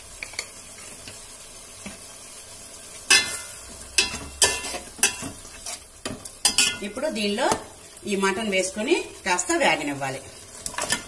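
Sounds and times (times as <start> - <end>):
masala frying faint sizzle: 0.0 - 11.0.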